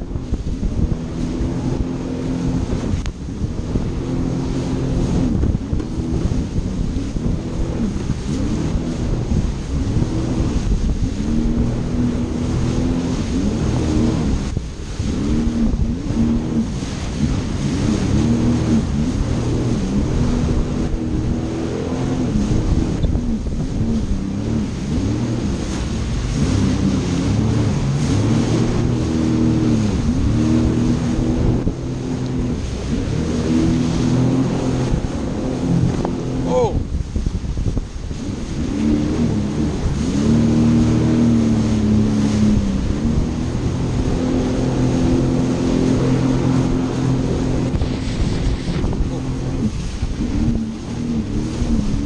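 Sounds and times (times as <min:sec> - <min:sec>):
jet ski engine running: 0:00.0 - 0:52.0
wind on microphone: 0:00.0 - 0:52.0.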